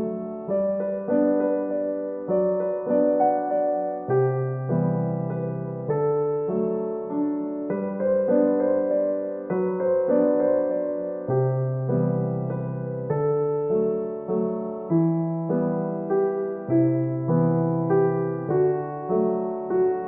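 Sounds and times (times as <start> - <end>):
gentle piano-like keyboard music: 0.0 - 20.0.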